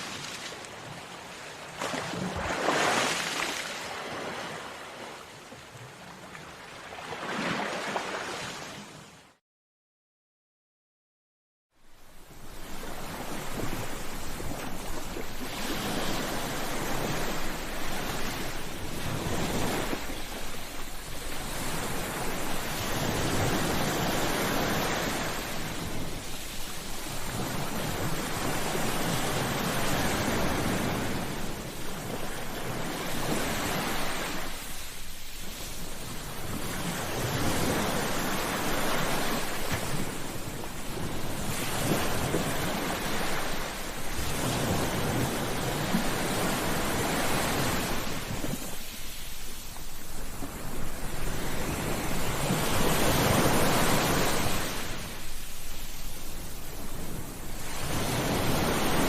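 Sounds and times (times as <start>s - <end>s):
ocean waves breaking on shore: 0.0s - 9.4s, 11.8s - 59.0s.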